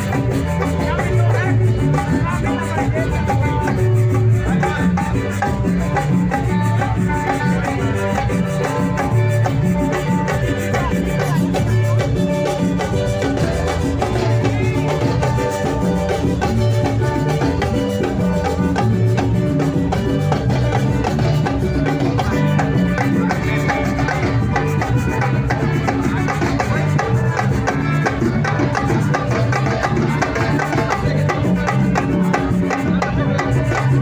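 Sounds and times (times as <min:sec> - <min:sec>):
bass line: 0:00.0 - 0:34.0
shakers and drums: 0:00.0 - 0:34.0.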